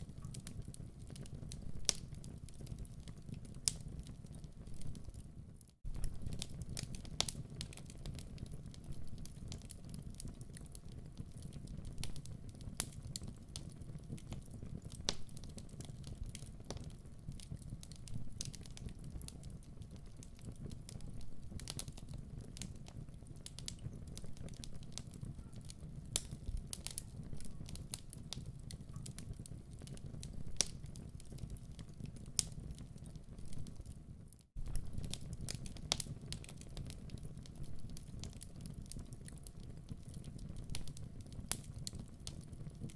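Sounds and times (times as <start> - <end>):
low rumble of flames: 0.0 - 42.9
wood fire crackling and popping: 0.0 - 42.9.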